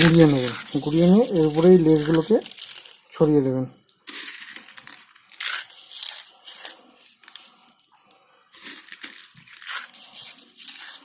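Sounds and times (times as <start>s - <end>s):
potato chips crunching: 0.0s - 3.1s, 4.1s - 7.8s, 8.6s - 11.0s.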